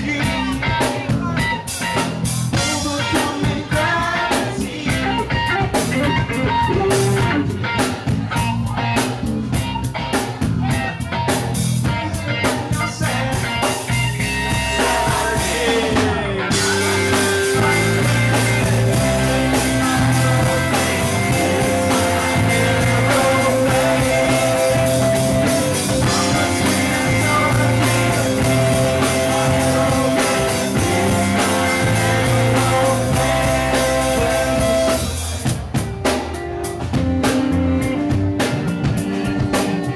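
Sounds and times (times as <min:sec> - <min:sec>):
man singing: 0:00.0 - 0:07.4, 0:10.6 - 0:35.2
live rock band playing: 0:00.0 - 0:39.9.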